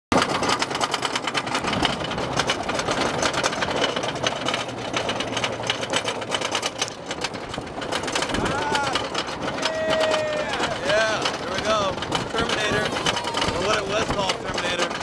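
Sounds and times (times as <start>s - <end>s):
anti-rollback dogs clicking: 0.1s - 15.0s
roller coaster lift chain clatter: 0.1s - 15.0s.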